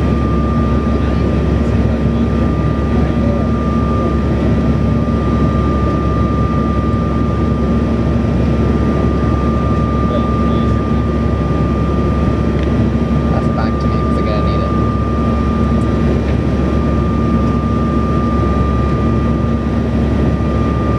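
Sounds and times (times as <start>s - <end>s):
jet engine drone: 0.0s - 20.9s.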